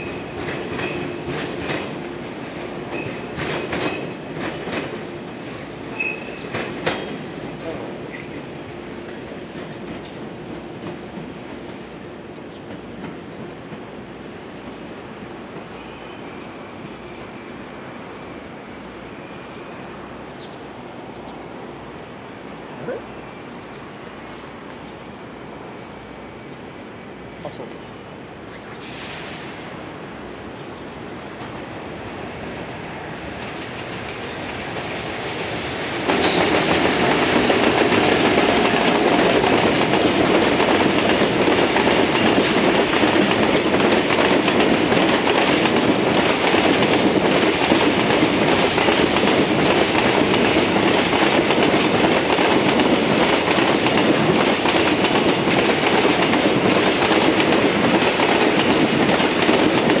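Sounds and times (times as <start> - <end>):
freight train passing: 0.0 - 60.0.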